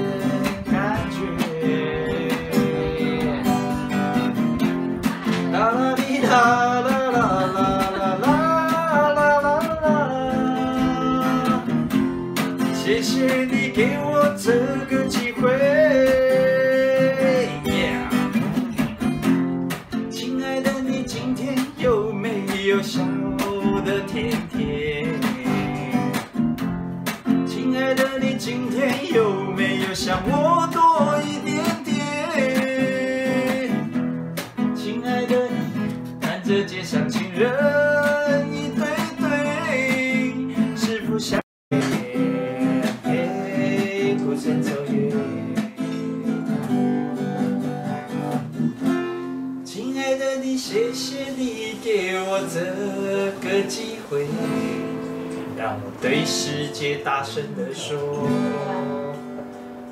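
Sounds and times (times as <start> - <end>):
man singing: 0.0 - 48.4, 49.6 - 59.9
acoustic guitar strumming: 0.0 - 59.9.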